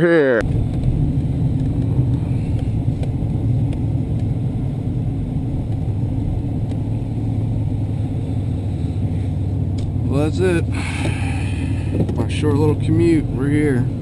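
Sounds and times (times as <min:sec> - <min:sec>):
vehicle engine running: 0:00.4 - 0:14.0.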